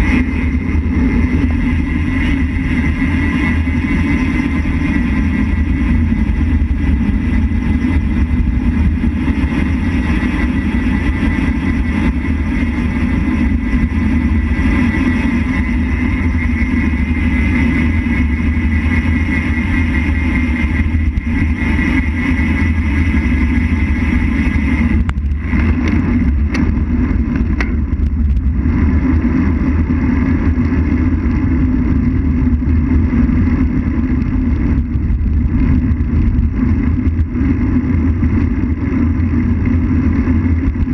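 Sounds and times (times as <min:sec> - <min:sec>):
tyres rolling on asphalt: 0:00.0 - 0:40.9
wind rumble on microphone: 0:00.0 - 0:40.9.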